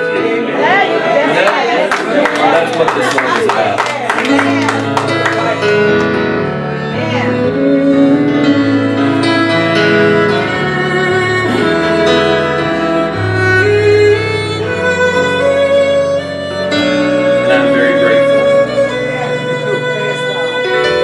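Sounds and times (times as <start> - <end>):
instrumental worship music: 0.0 - 21.0.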